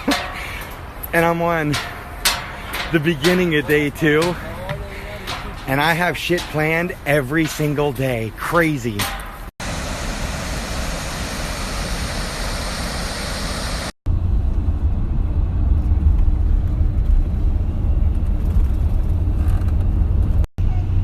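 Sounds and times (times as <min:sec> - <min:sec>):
steady rushing noise: 0:00.0 - 0:17.4.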